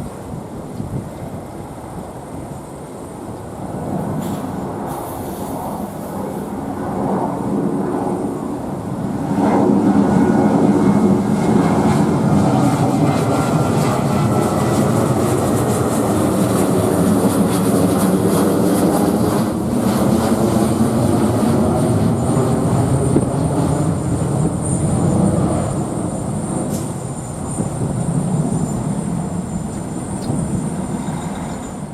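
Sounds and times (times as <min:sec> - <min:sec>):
jet engines roaring: 0:00.0 - 0:31.9.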